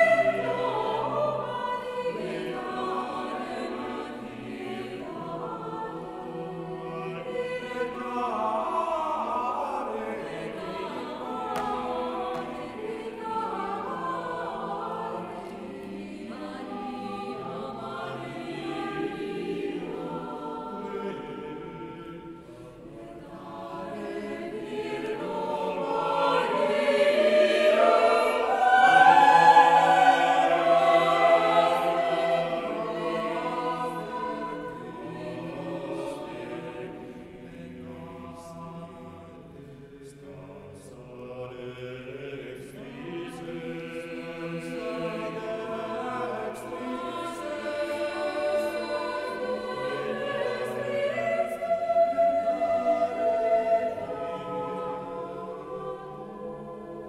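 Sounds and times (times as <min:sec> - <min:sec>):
mixed choir singing a cappella: 0:00.0 - 0:57.0.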